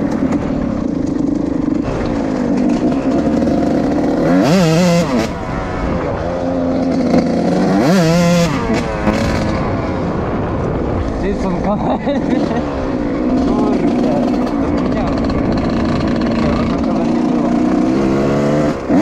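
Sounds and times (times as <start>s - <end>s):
two-stroke engine revving: 0.0s - 10.4s, 11.4s - 19.0s.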